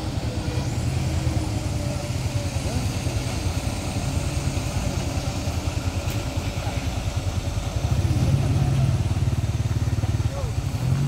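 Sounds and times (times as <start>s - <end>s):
faint voices: 0.0s - 11.0s
vehicle engines idling: 0.0s - 11.0s.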